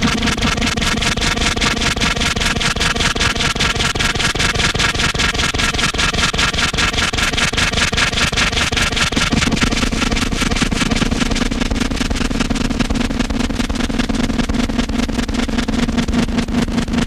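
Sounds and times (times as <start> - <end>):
pulsing distorted electronic noise: 0.0 - 17.0
steady low drone: 0.0 - 17.0.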